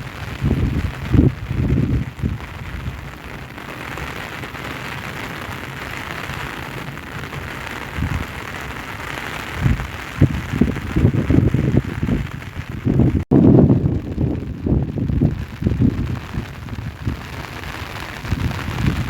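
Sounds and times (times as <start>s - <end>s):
heavy rain falling: 0.0s - 19.0s
wind buffeting microphone: 0.0s - 19.0s.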